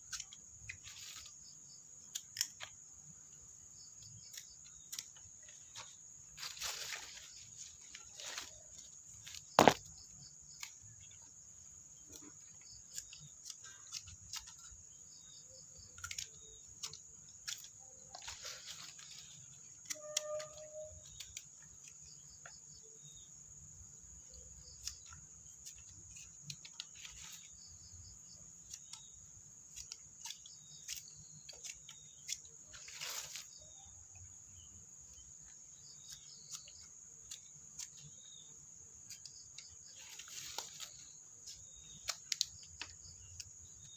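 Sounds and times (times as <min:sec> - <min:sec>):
high-pitched insect trill: 0:00.0 - 0:43.9.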